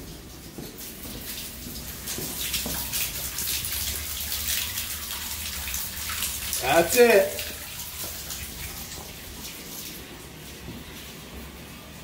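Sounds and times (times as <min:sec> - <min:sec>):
water pouring from tap splashing: 0:00.0 - 0:11.2.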